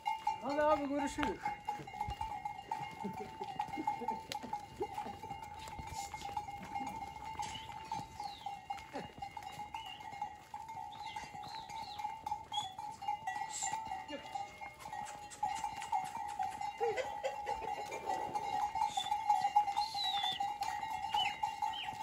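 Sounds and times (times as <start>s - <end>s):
animal bells clinking: 0.0s - 22.0s
hooves on cobblestones: 0.0s - 22.0s
goats bleating: 0.4s - 22.0s.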